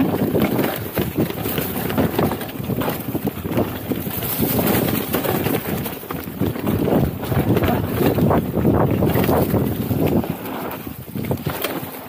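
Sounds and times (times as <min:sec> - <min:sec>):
bike rattling over bumps: 0:00.0 - 0:12.0
bike tyres crunching over dirt: 0:00.0 - 0:12.0
wind buffeting microphone: 0:00.0 - 0:12.0.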